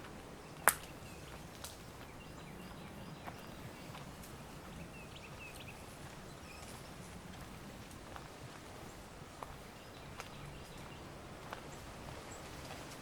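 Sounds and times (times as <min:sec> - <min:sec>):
woodland background hush: 0:00.0 - 0:13.0.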